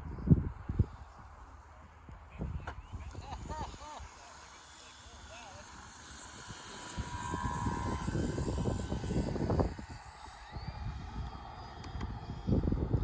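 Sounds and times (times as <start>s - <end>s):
electric motor and propeller whining: 0.0s - 13.0s
wind buffeting microphone: 2.3s - 13.0s.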